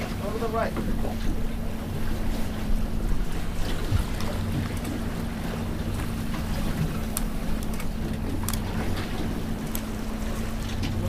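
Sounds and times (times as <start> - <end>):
outboard motor humming: 0.0 - 11.0
water noise: 0.0 - 11.0
wind: 0.0 - 11.0.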